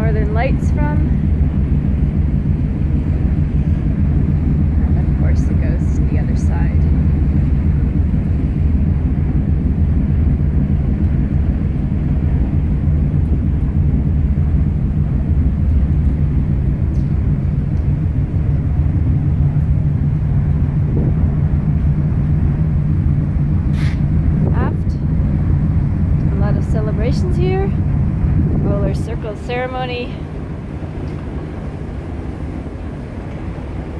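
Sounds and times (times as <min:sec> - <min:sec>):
ship machinery drone: 0:00.0 - 0:33.9
wind buffeting microphone: 0:00.0 - 0:33.9.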